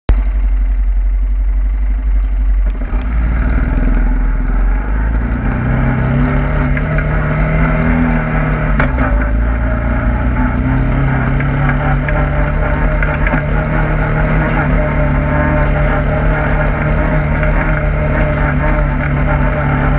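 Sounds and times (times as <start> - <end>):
off-road vehicle engine: 0.1 - 19.9.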